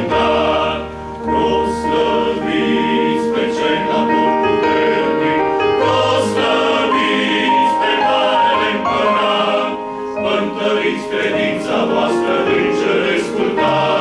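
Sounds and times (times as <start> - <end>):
men's choir singing a hymn: 0.0 - 14.0.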